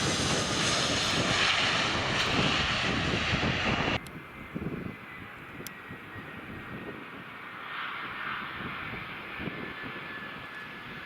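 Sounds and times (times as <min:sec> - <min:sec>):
distant jet engines whining: 0:00.0 - 0:11.0
wind buffeting microphone: 0:00.0 - 0:11.0.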